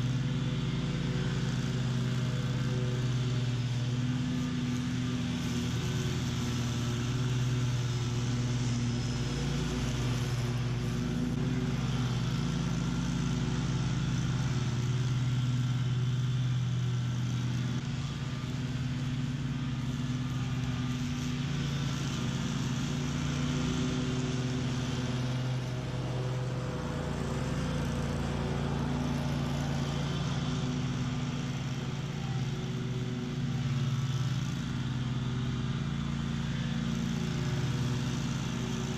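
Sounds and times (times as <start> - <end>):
lawn mower cutting weeds: 0.0 - 38.9.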